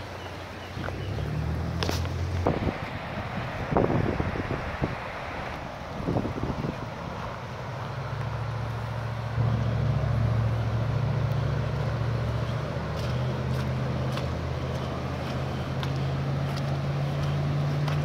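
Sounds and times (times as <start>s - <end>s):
floodwater rushing: 0.0s - 18.0s
vehicle engine humming: 0.0s - 18.0s.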